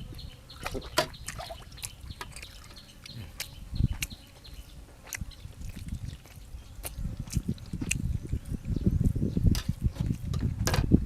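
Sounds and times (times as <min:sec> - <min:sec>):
wet chewing and slurping: 0:00.0 - 0:10.7.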